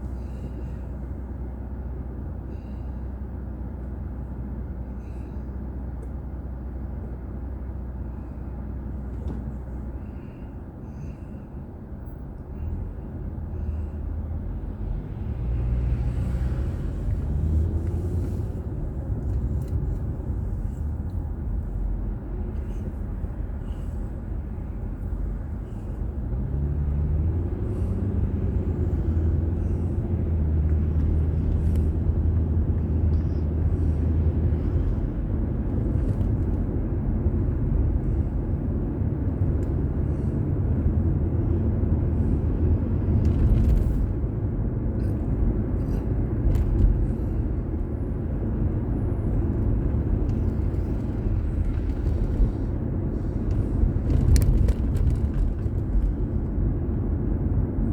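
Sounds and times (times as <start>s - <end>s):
car engine and road noise drone: 0.0s - 57.9s.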